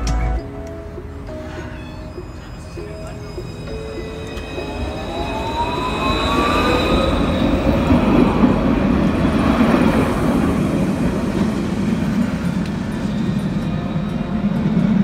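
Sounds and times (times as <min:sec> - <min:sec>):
tram motor whine: 0:00.0 - 0:15.0
tram wheels rumbling on rails: 0:00.0 - 0:15.0.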